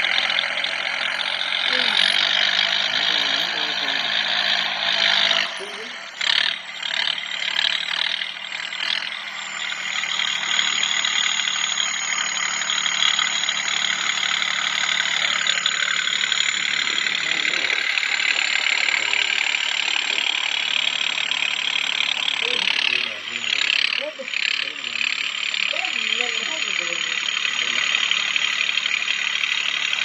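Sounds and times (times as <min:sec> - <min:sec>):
diesel tractor engine under load: 0:00.0 - 0:30.0.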